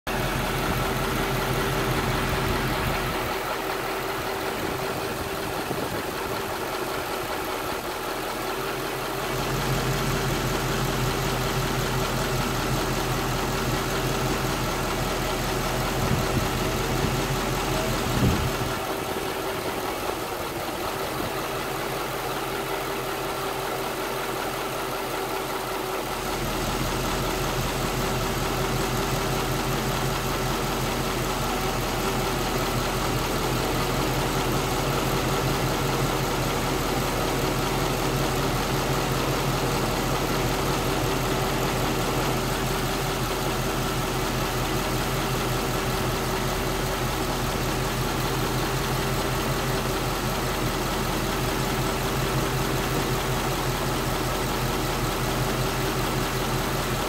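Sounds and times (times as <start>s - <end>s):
car engine idling roughly: 0.1s - 57.0s
engine knock: 0.1s - 57.0s.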